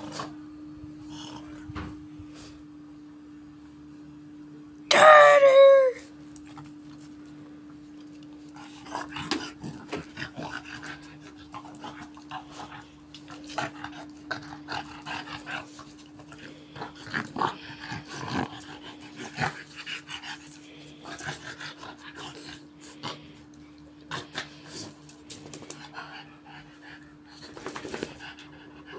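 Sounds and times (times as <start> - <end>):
dogs play-growling: 0.0 - 2.6, 6.4 - 28.9.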